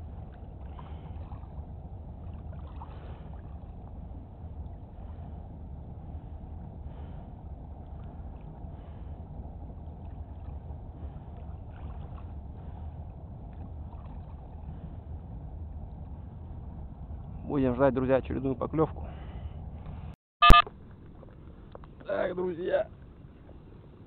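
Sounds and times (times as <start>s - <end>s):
wind rumbling on microphone: 0.0s - 20.1s.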